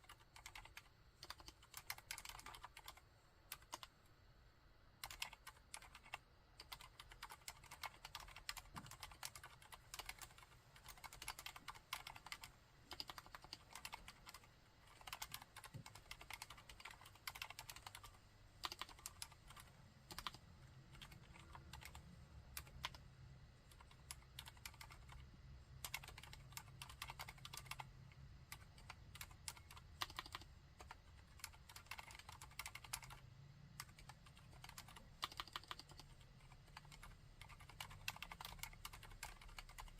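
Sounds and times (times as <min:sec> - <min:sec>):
muted keyboard typing: 0:00.0 - 0:04.0, 0:04.9 - 0:39.9.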